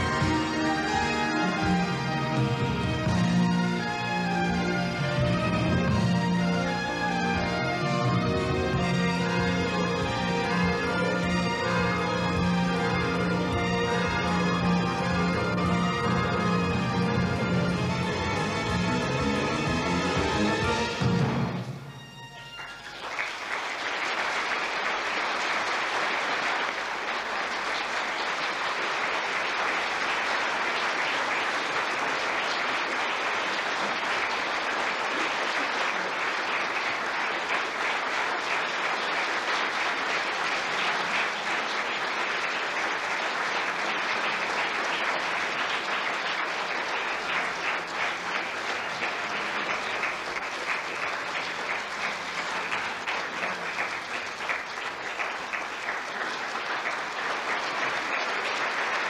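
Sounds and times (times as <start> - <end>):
audience applauding: 0.0 - 21.7, 22.3 - 59.0.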